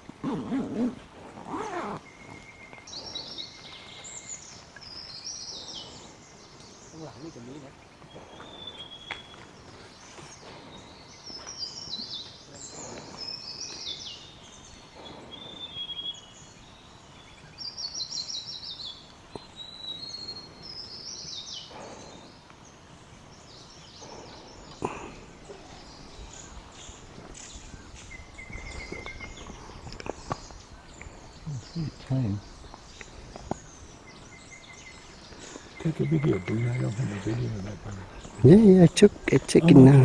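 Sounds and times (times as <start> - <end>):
wild birds chirping and singing: 0.0 - 40.0.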